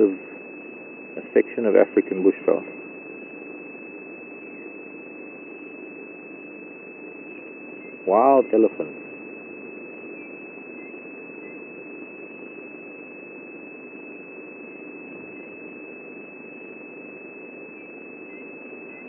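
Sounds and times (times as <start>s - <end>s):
constant hiss: 0.0s - 19.0s
high-pitched steady tone: 0.0s - 19.0s.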